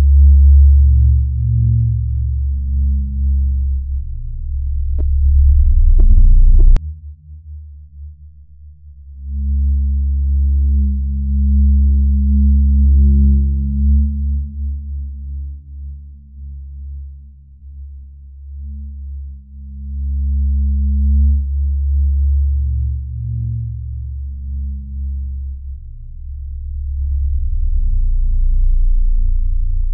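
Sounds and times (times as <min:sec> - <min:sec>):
deep droning rumble: 0:00.0 - 0:29.9.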